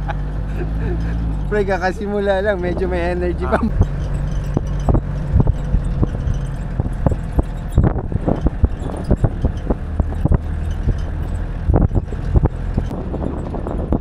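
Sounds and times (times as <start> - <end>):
tyres on gravel: 0.0 - 13.7
vehicle engine running: 0.0 - 14.0
body knocks and rattles: 0.2 - 14.0.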